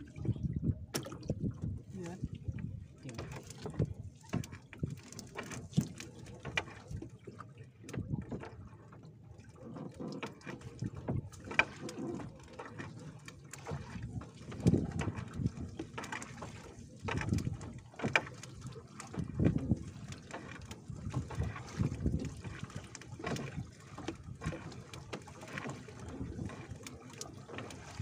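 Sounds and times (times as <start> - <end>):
water sloshing against boat: 0.0 - 28.0.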